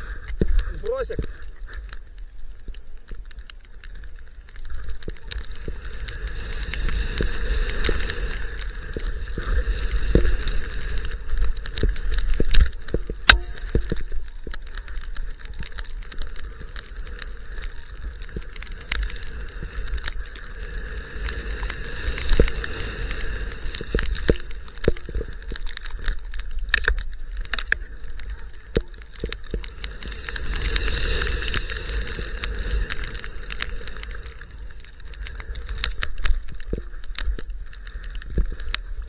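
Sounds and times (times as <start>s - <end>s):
sharp clicks and knocks from skis: 0.0s - 39.0s.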